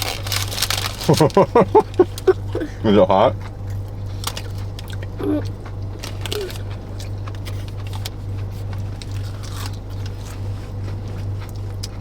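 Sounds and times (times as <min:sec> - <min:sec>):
food and wrappers rustling: 0:00.0 - 0:02.8, 0:03.7 - 0:12.0
steady low car hum: 0:00.0 - 0:12.0.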